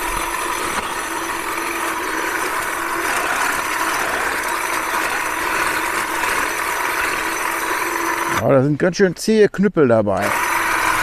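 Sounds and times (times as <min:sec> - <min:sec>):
electric hedge trimmer running: 0:00.0 - 0:08.7, 0:10.2 - 0:11.0.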